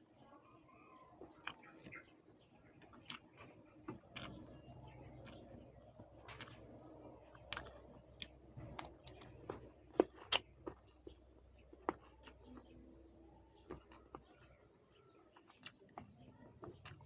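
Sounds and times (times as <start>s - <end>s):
crunchy fruit chewing: 0.0s - 17.0s.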